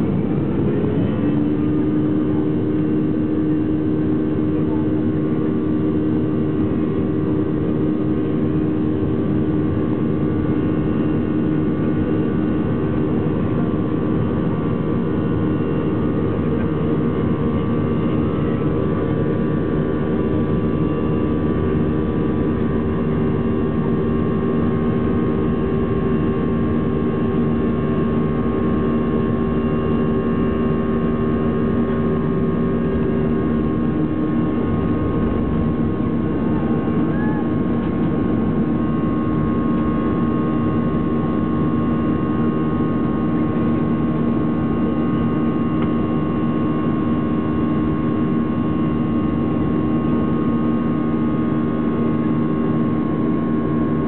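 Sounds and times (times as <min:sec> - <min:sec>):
jet engines humming from cabin: 0:00.0 - 0:54.0.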